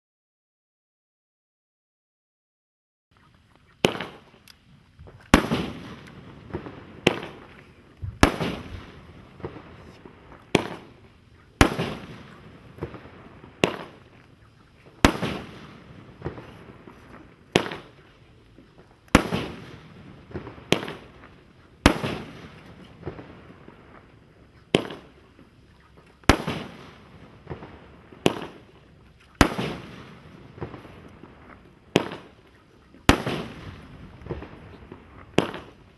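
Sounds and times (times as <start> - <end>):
fireworks bangs: 3.8 - 35.9.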